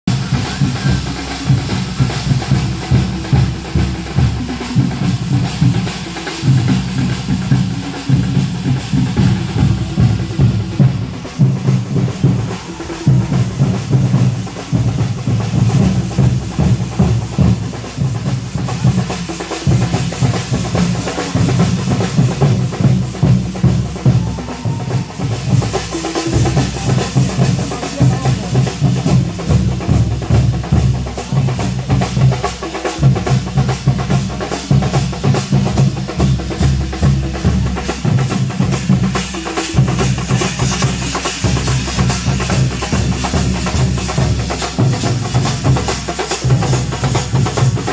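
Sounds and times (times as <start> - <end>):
percussion ensemble drumming: 0.0 - 47.9.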